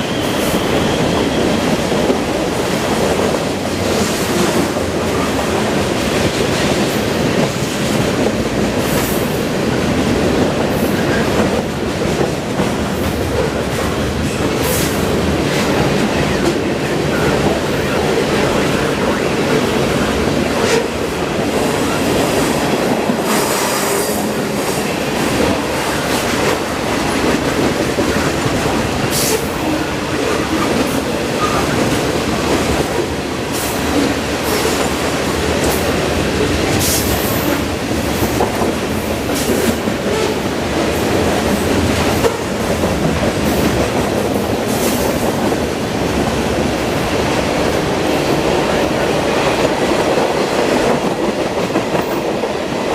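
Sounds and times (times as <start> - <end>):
freight train rumbling past: 0.0 - 52.9.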